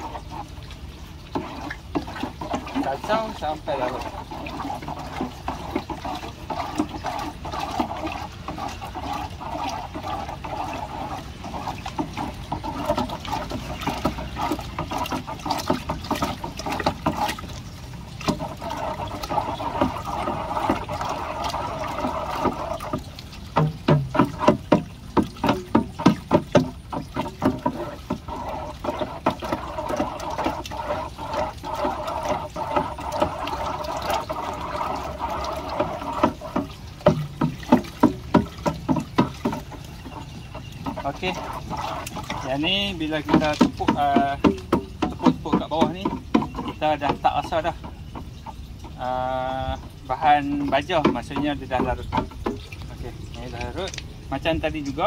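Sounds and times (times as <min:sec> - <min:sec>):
water churning in plastic drum: 0:00.0 - 0:55.0.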